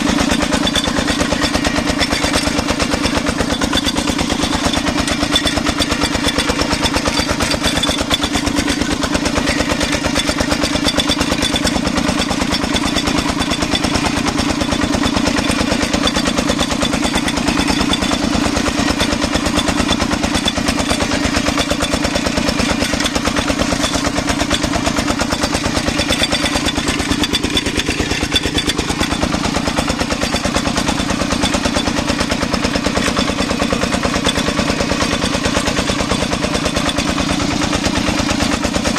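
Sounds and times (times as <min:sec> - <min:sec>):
diesel engine clattering: 0:00.0 - 0:38.9.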